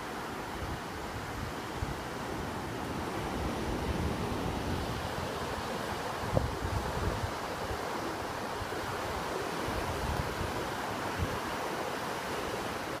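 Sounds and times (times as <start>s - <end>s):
ocean surf washing onto beach: 0.0s - 13.0s
wind buffeting microphone: 0.6s - 11.5s.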